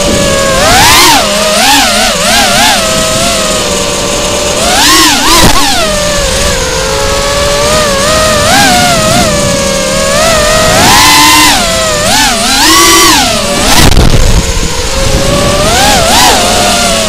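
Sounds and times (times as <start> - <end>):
quadcopter propellers whining: 0.0 - 17.0
rough rumble: 0.0 - 17.0.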